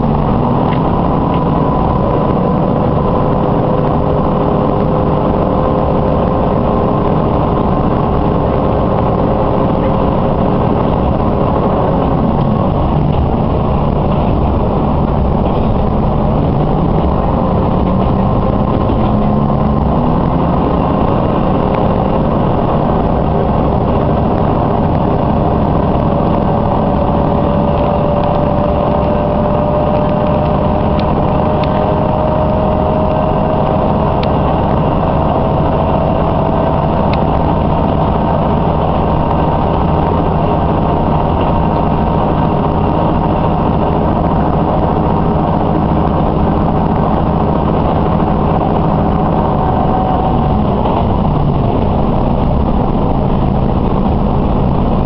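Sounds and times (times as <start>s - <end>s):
railcar engine and wheel rumble: 0.0s - 55.0s
thin rising whine: 0.0s - 55.0s.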